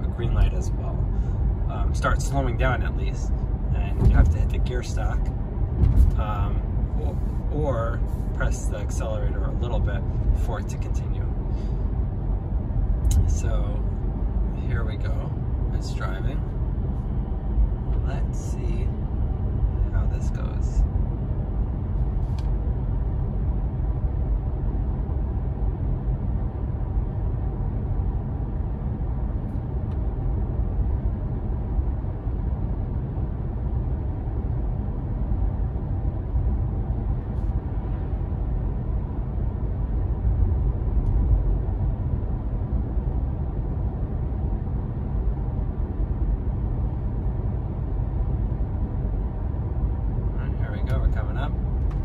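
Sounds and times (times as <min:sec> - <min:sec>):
road and tyre rumble: 0:00.0 - 0:52.0.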